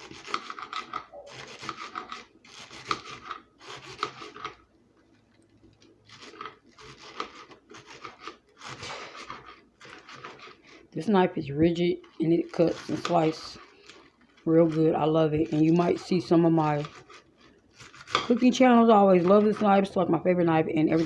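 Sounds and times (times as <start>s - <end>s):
knife slicing lettuce: 0.0s - 4.6s, 6.0s - 10.9s, 11.7s - 19.9s.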